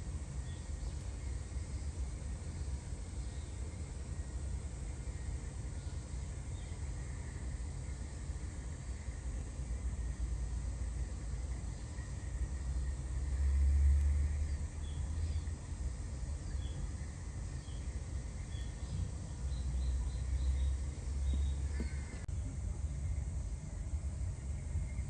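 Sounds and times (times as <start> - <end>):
faint birds chirping: 0.0 - 22.3.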